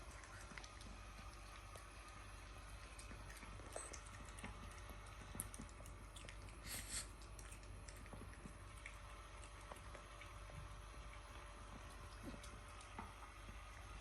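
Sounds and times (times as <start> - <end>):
dog eating with smacking licks: 0.0 - 14.0.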